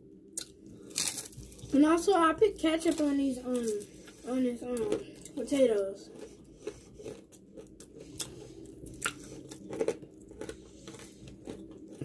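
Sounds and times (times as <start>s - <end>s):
chewing crunchy fried food: 0.3s - 1.8s, 2.8s - 12.0s.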